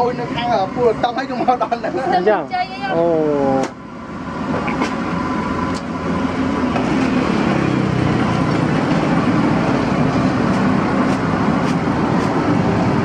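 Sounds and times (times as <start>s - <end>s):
street traffic: 0.0s - 13.0s
vehicle engine rumbling: 0.0s - 13.0s.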